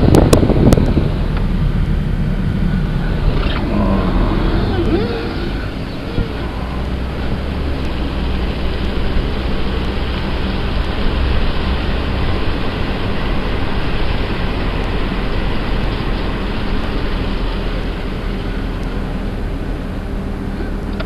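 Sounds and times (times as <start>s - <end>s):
vehicle road noise rumble: 0.0s - 21.0s.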